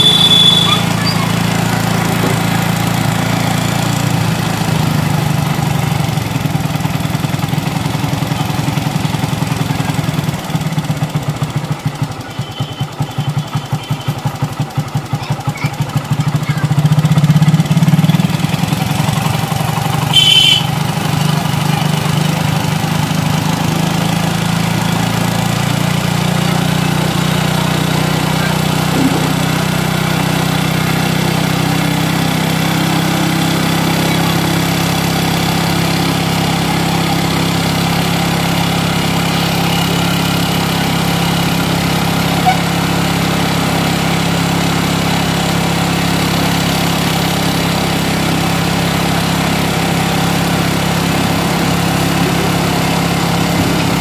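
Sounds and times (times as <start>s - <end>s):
motorcycle engine idling fast: 0.0s - 54.0s.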